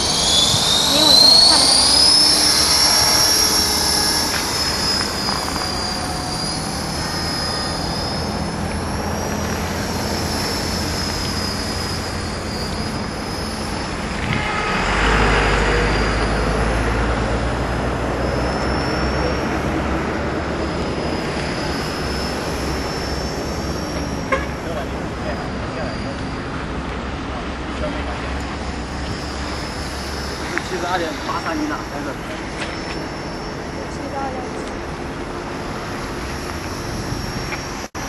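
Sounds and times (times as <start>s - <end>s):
helicopter motor and rotor whine: 0.0s - 38.0s
rushing noise: 0.0s - 38.0s.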